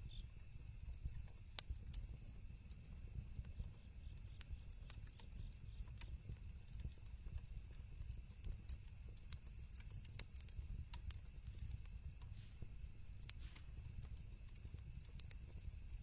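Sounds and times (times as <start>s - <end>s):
campfire crackling and popping: 0.0s - 16.0s
crickets chirring: 0.0s - 16.0s
low steady rumble: 0.0s - 16.0s.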